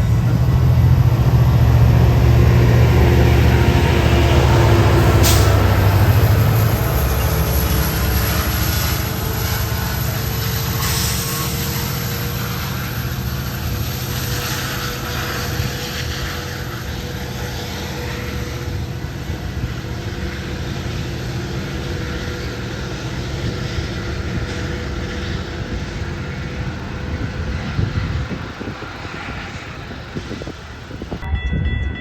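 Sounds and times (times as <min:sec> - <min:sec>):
train passing rumble: 0:00.0 - 0:32.0.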